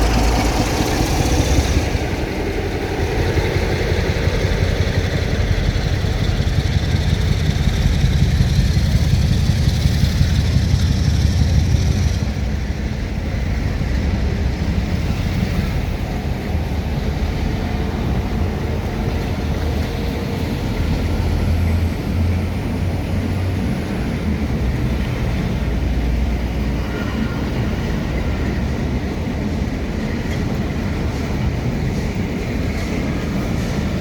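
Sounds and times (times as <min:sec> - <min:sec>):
train rumbling by: 0:00.0 - 0:34.0.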